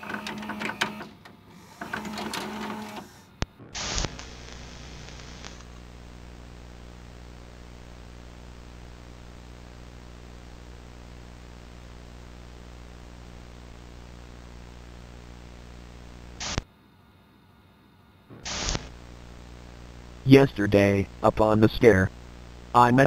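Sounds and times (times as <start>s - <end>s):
videotape playback hum and hiss: 0.0s - 23.0s.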